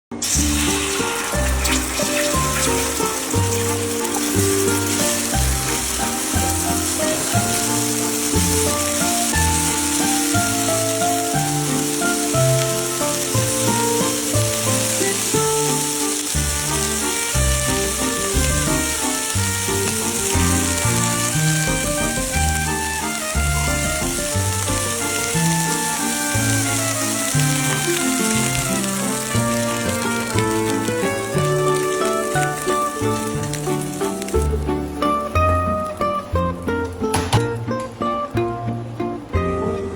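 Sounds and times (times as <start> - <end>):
rice sizzling in a pan: 0.1 - 35.6.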